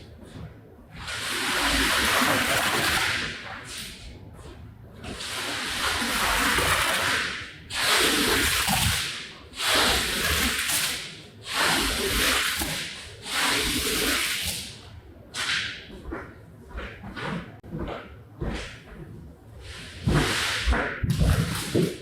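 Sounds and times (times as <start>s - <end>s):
tool rubbing across wet rug: 1.0s - 4.0s, 5.1s - 22.0s.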